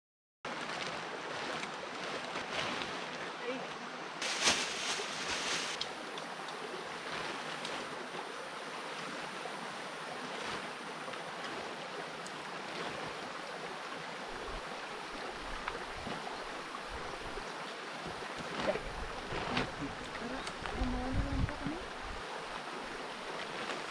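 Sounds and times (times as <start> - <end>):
tent poles and fabric rustling: 0.5 - 9.4, 10.1 - 23.9
mountain stream rushing: 0.5 - 23.9.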